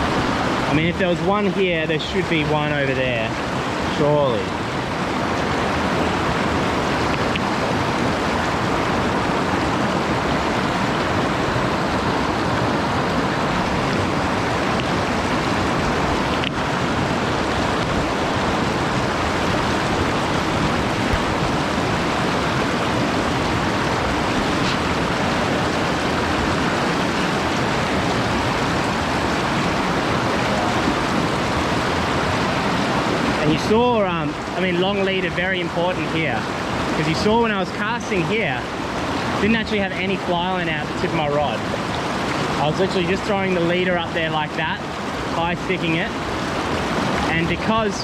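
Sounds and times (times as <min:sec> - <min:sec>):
stream running over rocks: 0:00.0 - 0:48.0.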